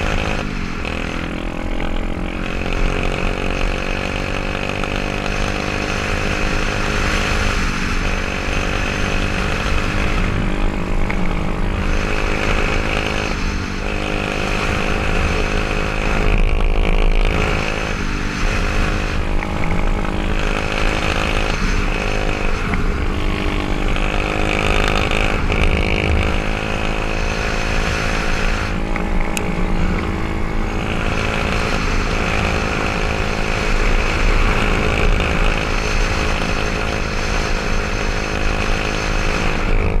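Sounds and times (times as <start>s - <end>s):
motorbike engine running: 0.0s - 40.0s.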